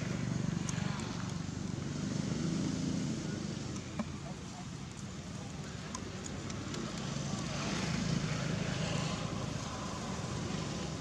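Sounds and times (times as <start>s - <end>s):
vehicle passing on road: 0.0s - 11.0s.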